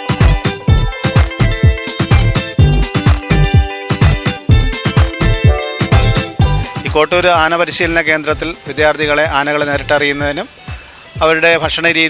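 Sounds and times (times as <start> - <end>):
upbeat music with drums: 0.0 - 12.0.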